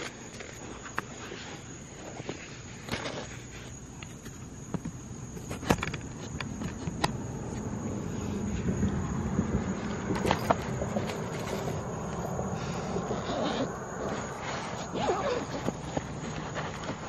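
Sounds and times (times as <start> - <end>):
distant road traffic rumble: 0.0 - 17.0
high insect drone: 0.0 - 17.0.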